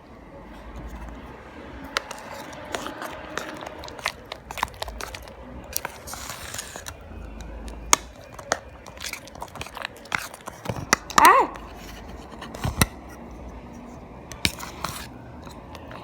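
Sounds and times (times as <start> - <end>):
slime being stirred: 0.5 - 16.0
sticky slime crackling: 0.6 - 13.0, 14.3 - 16.0.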